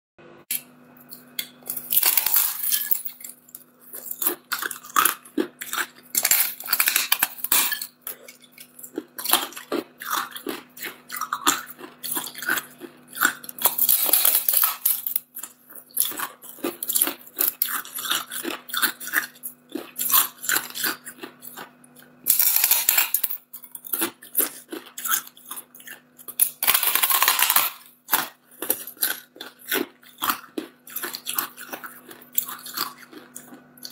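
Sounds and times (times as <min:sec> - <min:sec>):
grinding crunch of ice: 0:00.5 - 0:33.9.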